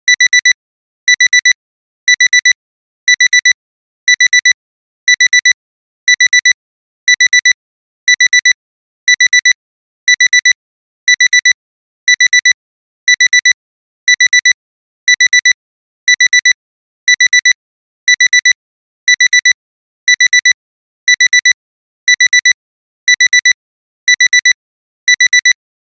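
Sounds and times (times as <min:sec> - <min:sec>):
digital alarm clock beeping: 0:00.1 - 0:01.5, 0:02.1 - 0:25.6.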